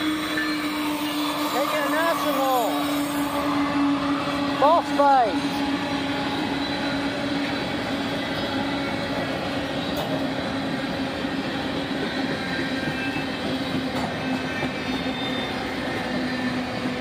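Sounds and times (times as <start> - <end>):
train cars rolling on rails: 0.0 - 17.0.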